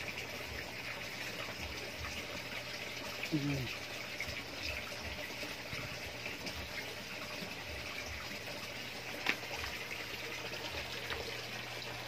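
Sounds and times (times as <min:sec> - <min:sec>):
water bubbling and trickling: 0:00.0 - 0:12.0.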